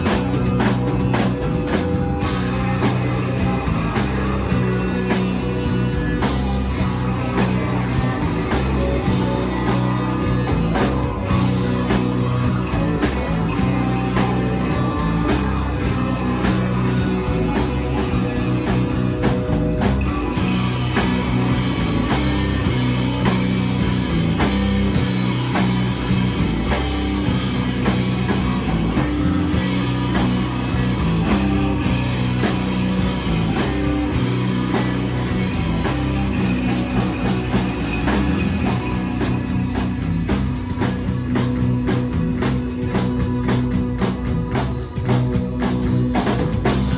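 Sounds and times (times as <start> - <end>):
distorted bass and guitars: 0.0 - 46.9
steady drum beat: 0.0 - 46.9.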